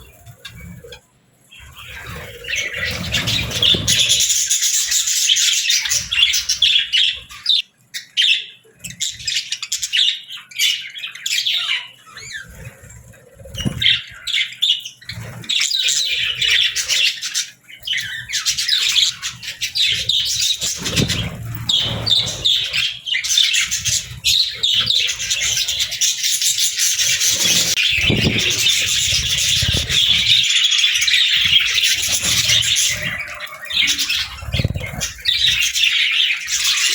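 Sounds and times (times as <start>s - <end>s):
budgerigars chattering and chirping: 0.0s - 36.9s.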